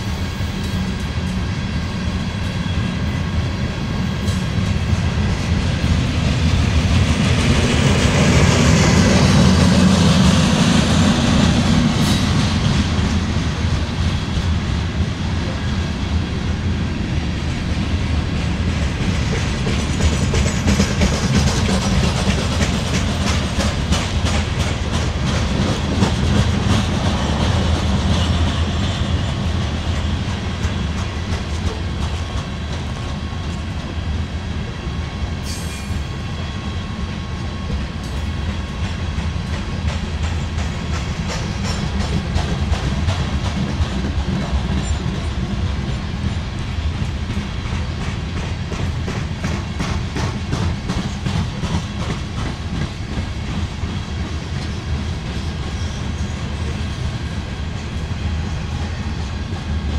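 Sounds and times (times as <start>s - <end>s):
freight train rolling past: 0.0s - 59.9s
wheels clickety-clack on rail joints: 0.0s - 59.9s.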